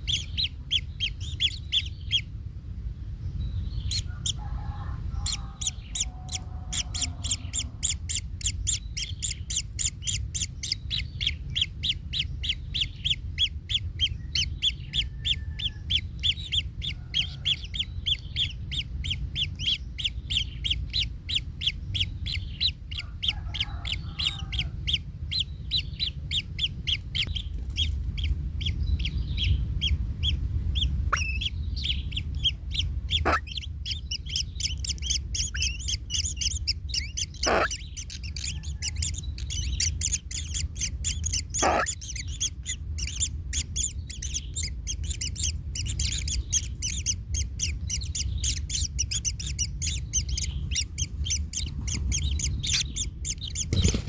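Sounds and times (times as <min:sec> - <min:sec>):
bird nestlings chirping: 0:00.0 - 0:54.0
steady low rumble: 0:00.0 - 0:54.0.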